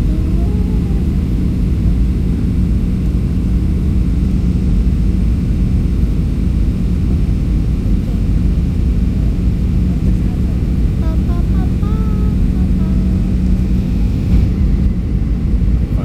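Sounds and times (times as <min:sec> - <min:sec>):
airliner engine rumble: 0:00.0 - 0:16.0
constant low hum: 0:00.0 - 0:16.0.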